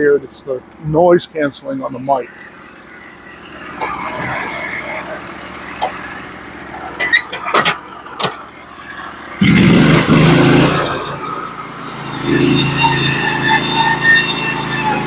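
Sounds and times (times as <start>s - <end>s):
sawmill engine running: 0.0s - 7.2s, 7.8s - 15.0s.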